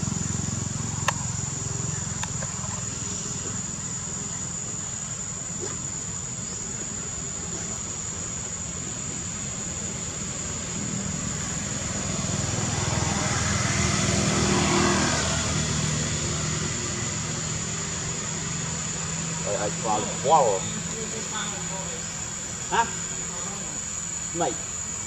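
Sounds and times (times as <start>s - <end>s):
vehicle engine rumble passing: 0.0s - 25.0s.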